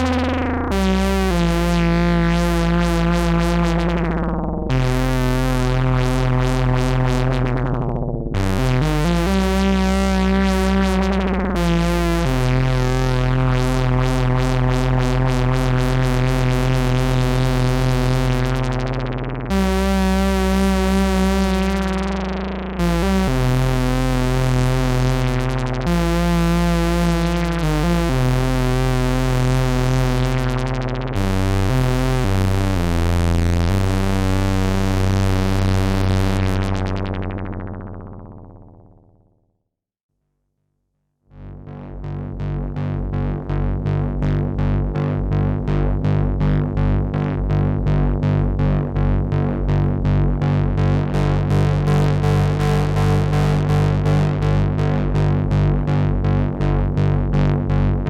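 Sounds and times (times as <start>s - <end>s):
synthesizer bass notes: 0.0s - 39.2s, 41.4s - 58.0s.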